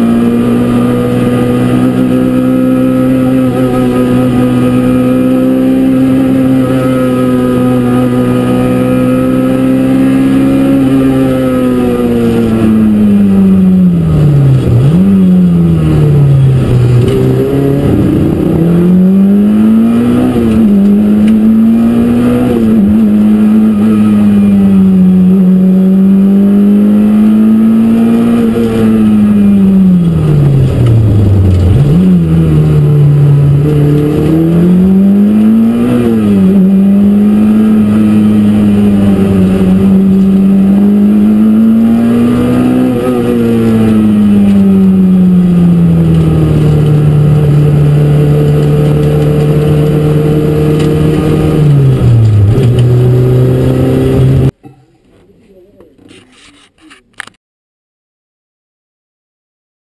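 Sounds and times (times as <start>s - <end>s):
car engine revving hard: 0.0s - 54.6s.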